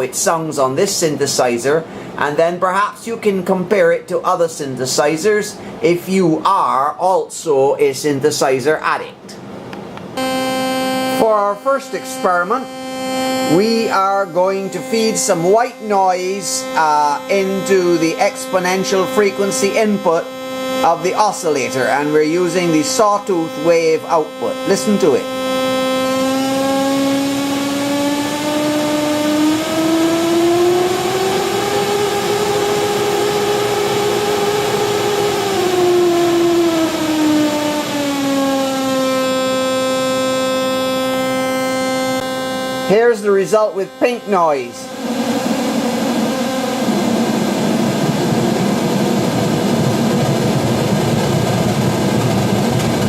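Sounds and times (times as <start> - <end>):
synthesizer tone with hiss: 10.2 - 53.0.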